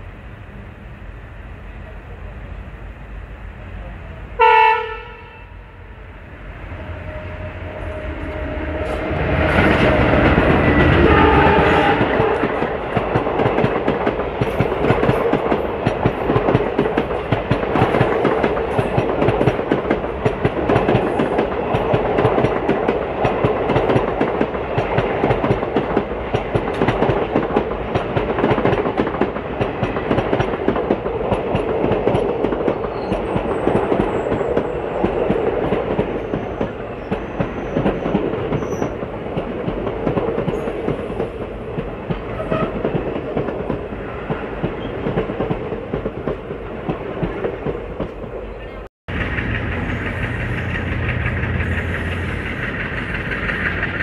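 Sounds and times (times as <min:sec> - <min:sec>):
wheel-on-rail rush: 0:06.6 - 0:48.5, 0:49.1 - 0:54.0
wheels clacking over rail joints: 0:08.8 - 0:48.3, 0:49.1 - 0:54.0.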